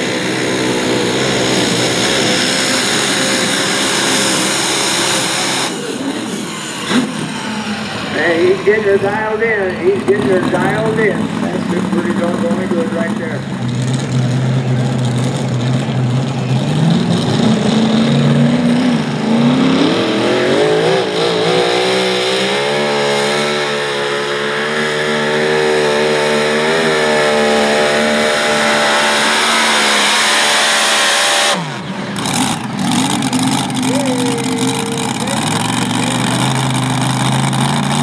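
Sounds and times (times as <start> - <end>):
tractor engine revving: 0.0 - 38.0.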